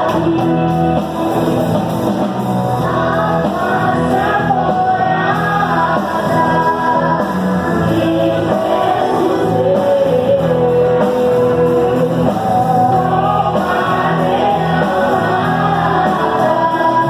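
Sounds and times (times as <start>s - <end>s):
person singing: 0.0s - 1.6s, 2.7s - 17.0s
instrumental accompaniment: 0.0s - 17.0s.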